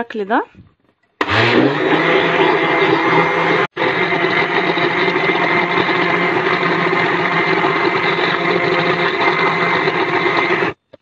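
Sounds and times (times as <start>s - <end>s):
electric blender running: 1.2s - 10.8s.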